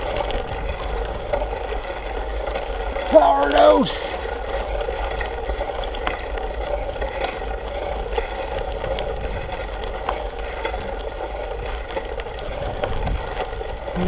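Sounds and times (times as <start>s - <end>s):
bike tyres crunching on gravel: 0.0s - 14.0s
small clicks and rattles: 0.0s - 14.0s
wind rumble on microphone: 0.0s - 14.0s.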